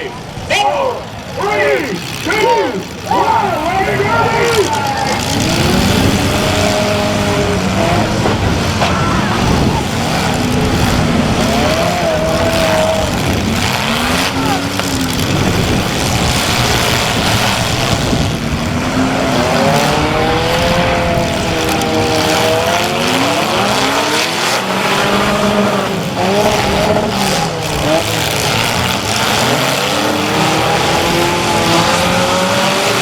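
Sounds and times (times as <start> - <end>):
car engines revving hard: 0.0 - 33.0.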